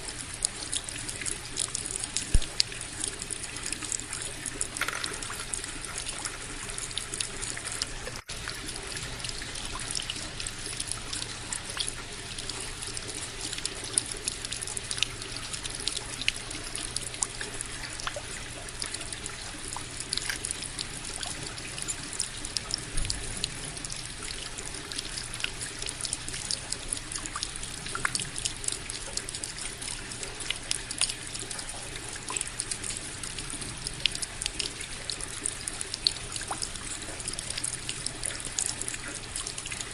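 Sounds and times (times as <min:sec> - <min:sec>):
tabletop fountain water trickling: 0:00.0 - 0:39.9
water drips: 0:00.0 - 0:39.9.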